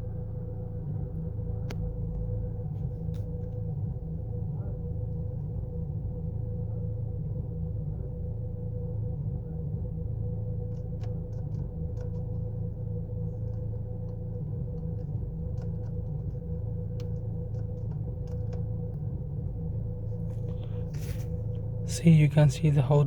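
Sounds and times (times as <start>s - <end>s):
car engine idling roughly: 0.0s - 23.0s
faint steady hum: 0.0s - 23.0s.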